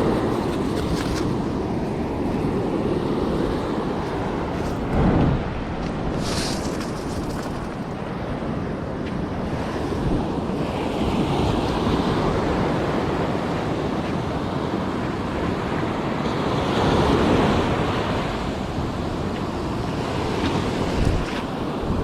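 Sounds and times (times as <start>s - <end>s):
ocean surf washing onto beach: 0.0s - 22.0s
wind buffeting microphone: 0.0s - 22.0s.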